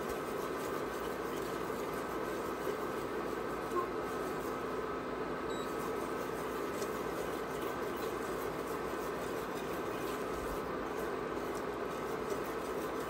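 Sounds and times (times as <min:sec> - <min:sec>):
whisk stirring sauce: 0:00.0 - 0:04.8, 0:05.7 - 0:13.0.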